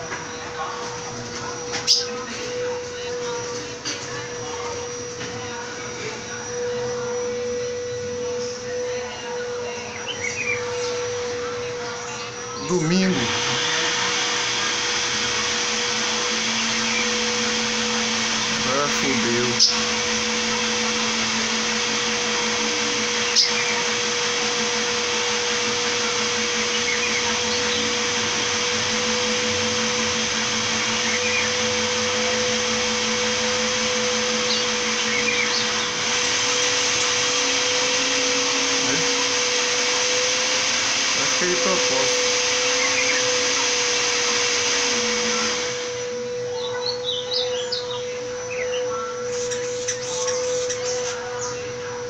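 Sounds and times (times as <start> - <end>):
electric blender whirring: 0.0 - 52.0.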